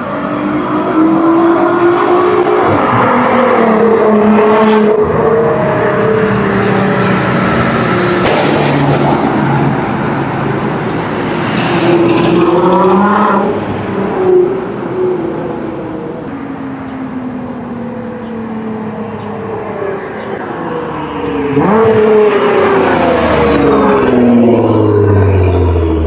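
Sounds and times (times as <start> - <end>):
car engine revving: 0.0 - 16.3, 19.8 - 26.0.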